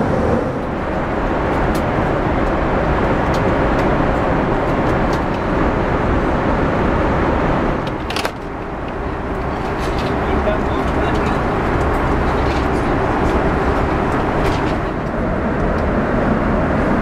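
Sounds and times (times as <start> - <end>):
airplane cabin roar: 0.0 - 17.0.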